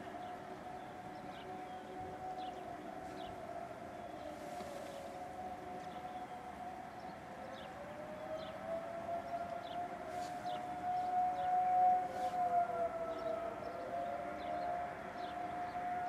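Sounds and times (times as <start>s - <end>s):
distant sirens wailing: 0.0s - 16.0s.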